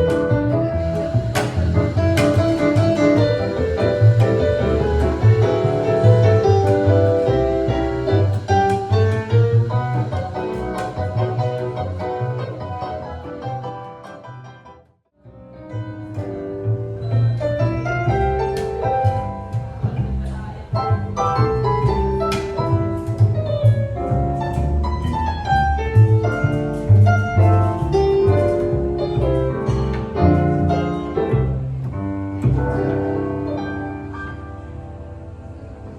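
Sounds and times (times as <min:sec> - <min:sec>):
acoustic instrumental music: 0:00.0 - 0:35.9.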